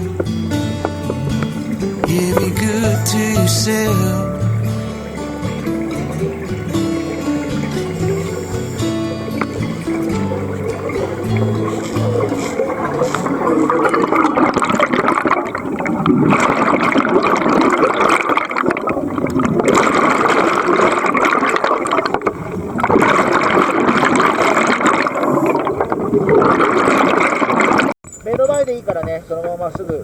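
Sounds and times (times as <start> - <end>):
water churning and gurgling: 0.0 - 28.0.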